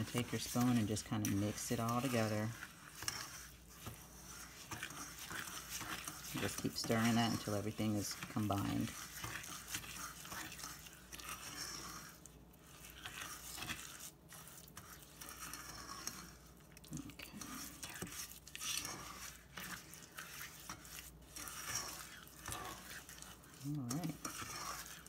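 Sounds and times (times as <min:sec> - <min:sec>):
sugar scraping in a saucepan: 0:00.0 - 0:25.0.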